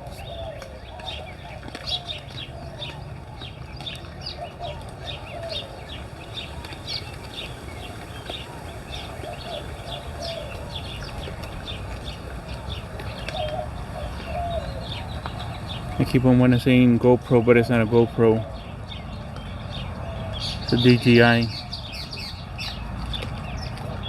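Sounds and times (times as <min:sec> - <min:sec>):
birds warbling: 0:00.0 - 0:24.0
many birds chirping: 0:00.0 - 0:24.0
steady low rumble: 0:00.0 - 0:24.0.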